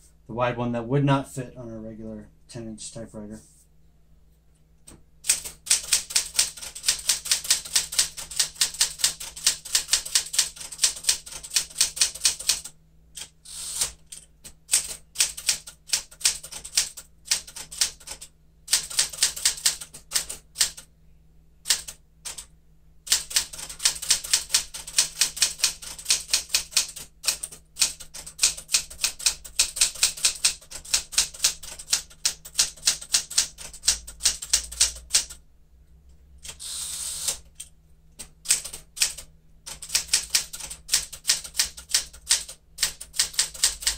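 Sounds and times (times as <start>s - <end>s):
typewriter keystrokes: 5.2s - 20.8s, 21.7s - 22.5s, 23.1s - 35.4s, 36.4s - 43.9s.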